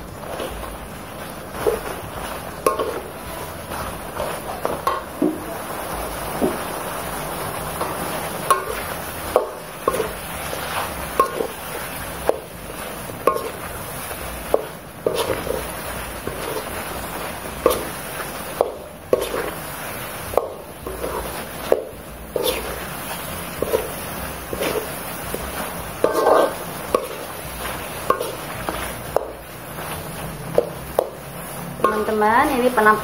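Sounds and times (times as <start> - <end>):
metal spoon scraping a wok: 0.2 - 5.3, 6.4 - 33.0.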